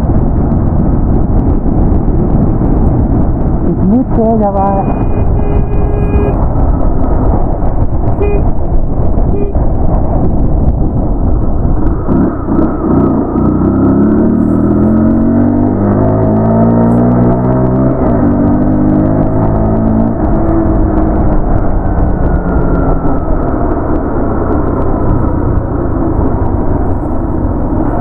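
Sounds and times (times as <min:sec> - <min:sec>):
motorcycle engine accelerating: 0:00.0 - 0:28.0
wind buffeting microphone: 0:00.0 - 0:28.0.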